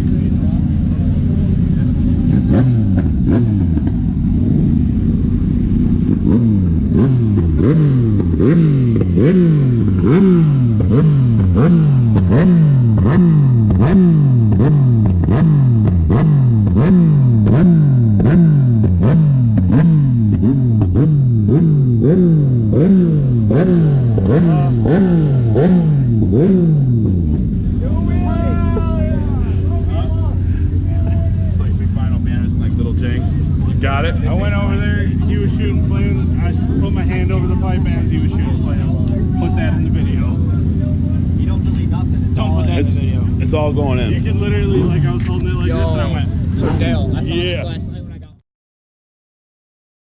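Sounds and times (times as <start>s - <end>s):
car engine revving: 0.0s - 48.4s.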